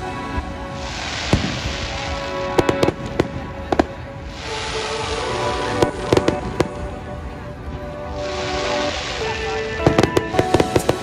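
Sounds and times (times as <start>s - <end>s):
background music: 0.0s - 11.0s
fireworks bangs: 0.0s - 11.0s.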